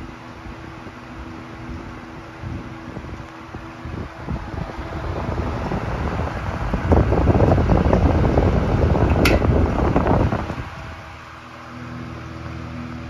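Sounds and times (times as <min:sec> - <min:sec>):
table fan air rushing: 0:00.0 - 0:13.0.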